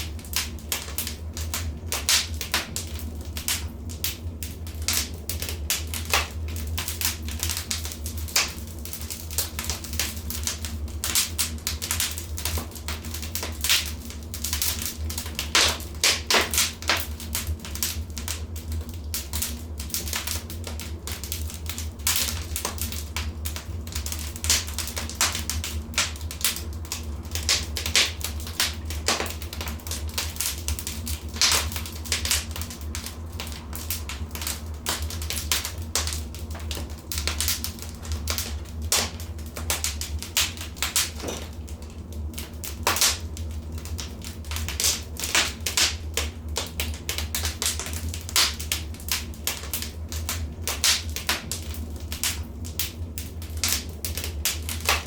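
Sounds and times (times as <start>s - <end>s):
steady low hum: 0.0s - 55.0s
wood fire crackling: 0.0s - 55.0s.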